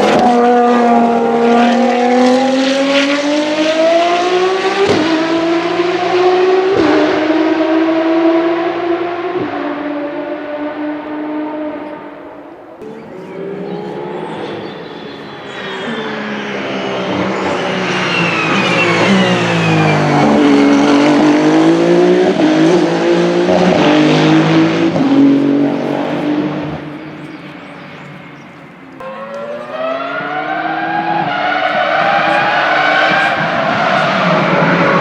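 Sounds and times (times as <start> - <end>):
another engine accelerating: 0.0 - 35.0
race car passing at speed: 0.0 - 35.0.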